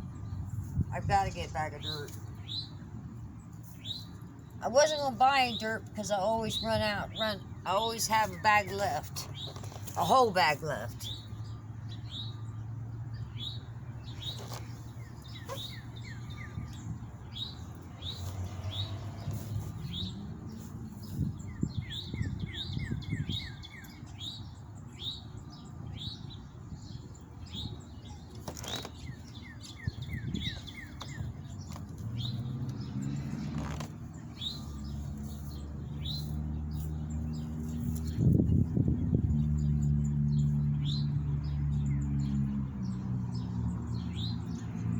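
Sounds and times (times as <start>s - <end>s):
small songbirds chirping: 0.0s - 44.9s.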